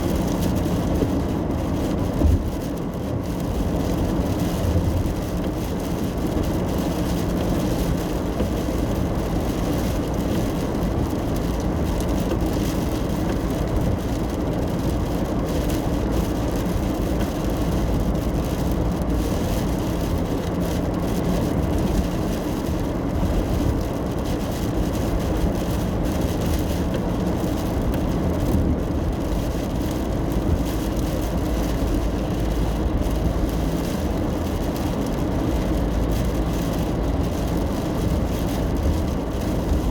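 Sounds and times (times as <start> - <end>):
car engine and tyre drone: 0.0 - 39.9.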